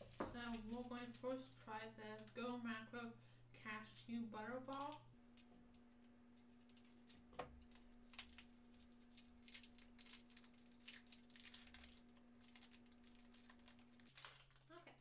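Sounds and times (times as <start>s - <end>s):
plastic wrapper crinkling: 0.0s - 2.8s, 4.5s - 15.0s.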